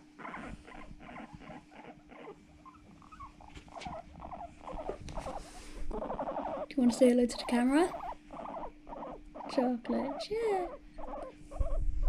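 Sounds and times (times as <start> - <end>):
guinea pigs squeaking: 0.0 - 11.9.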